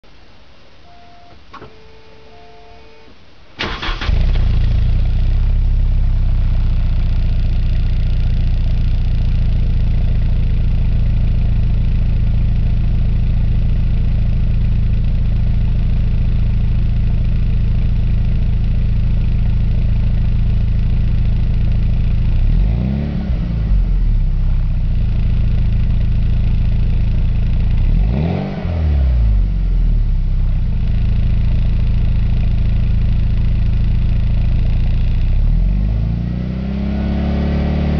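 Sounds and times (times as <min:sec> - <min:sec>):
car engine idling: 0:03.3 - 0:35.8.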